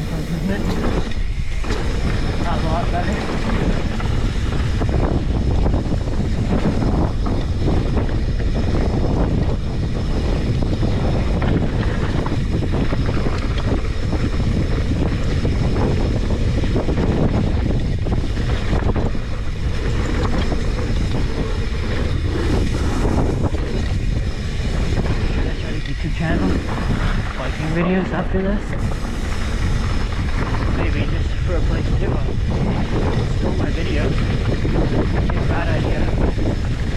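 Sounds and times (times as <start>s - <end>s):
bike rumble: 0.0s - 36.9s
wind buffeting microphone: 0.0s - 36.9s.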